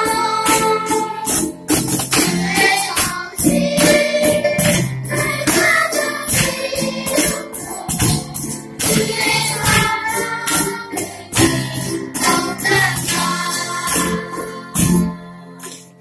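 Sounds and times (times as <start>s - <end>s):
children singing: 0.0s - 1.6s, 2.2s - 15.8s
hand percussion beat: 0.0s - 15.1s
guitars: 0.0s - 16.0s.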